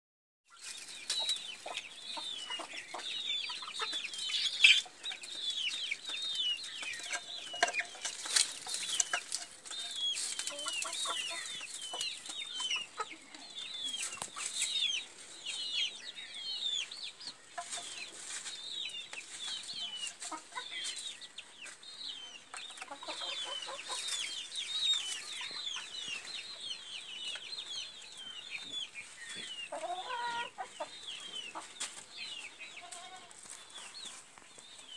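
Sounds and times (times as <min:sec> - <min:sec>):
chicks peeping: 0:00.5 - 0:34.9
hens clucking: 0:00.5 - 0:34.9.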